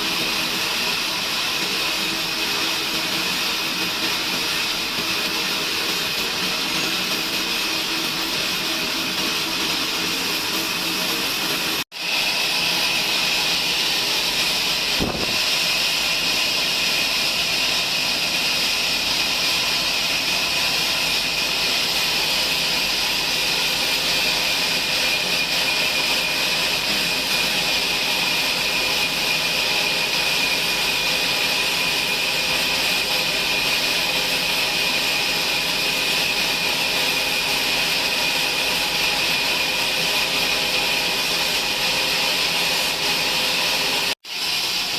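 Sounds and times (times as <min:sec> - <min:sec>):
band saw whining: 0:00.0 - 0:44.9.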